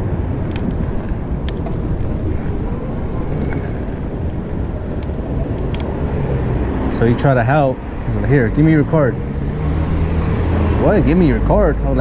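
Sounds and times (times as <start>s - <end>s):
wind buffeting microphone: 0.0s - 11.4s
city street traffic rumble: 0.0s - 12.0s.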